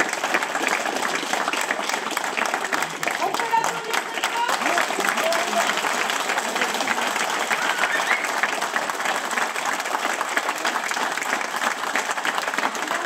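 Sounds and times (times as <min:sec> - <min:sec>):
people applauding: 0:00.0 - 0:13.0.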